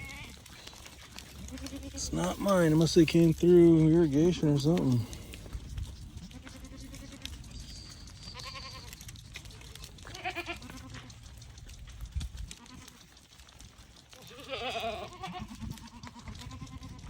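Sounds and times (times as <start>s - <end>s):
goats bleating: 0.0s - 7.6s, 8.2s - 11.2s, 12.5s - 13.1s, 14.1s - 17.0s.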